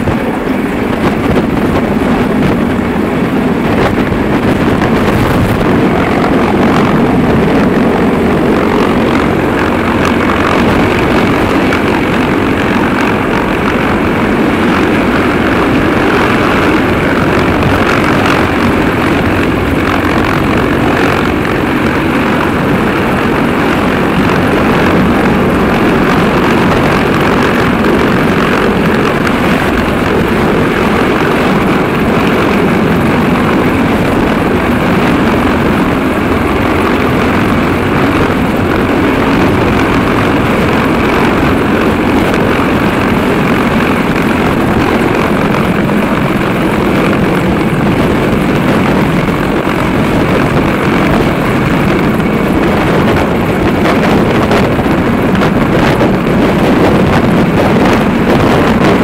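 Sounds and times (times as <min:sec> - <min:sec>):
helicopter hovering overhead: 0:00.0 - 0:59.0.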